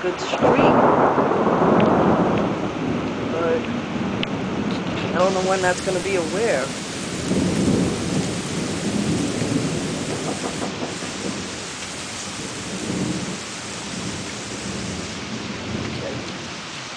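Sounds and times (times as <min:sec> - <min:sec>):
rolling thunder: 0:00.0 - 0:16.7
steady rain: 0:00.0 - 0:16.9.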